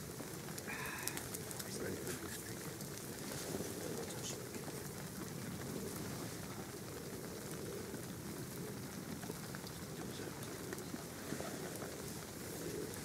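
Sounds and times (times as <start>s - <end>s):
faint ticks of raindrops: 0.0s - 13.0s
steady rain falling: 0.0s - 13.0s.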